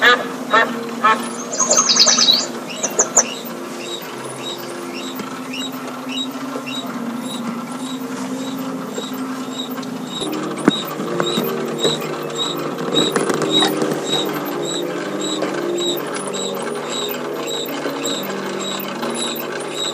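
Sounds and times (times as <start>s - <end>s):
high squeaky chirps: 1.3s - 19.9s.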